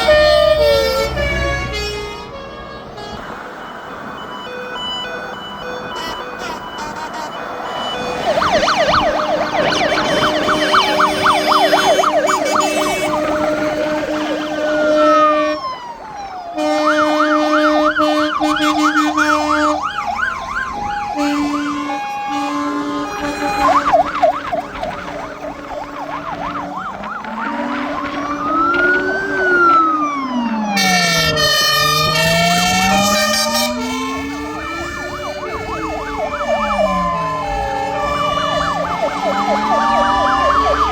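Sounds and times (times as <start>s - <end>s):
fire engine sirens: 0.0s - 40.9s.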